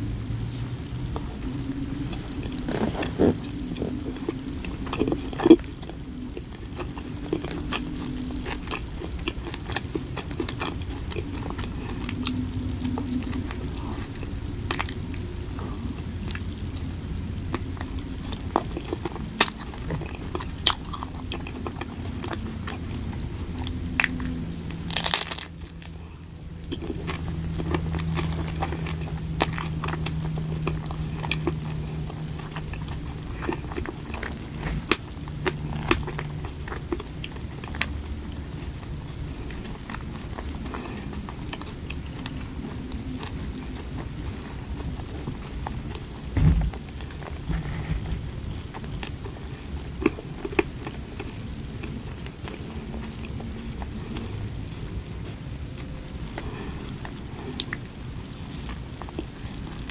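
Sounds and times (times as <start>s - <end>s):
person chewing crunchy food: 0.0s - 59.9s
steady low hum: 0.0s - 59.9s.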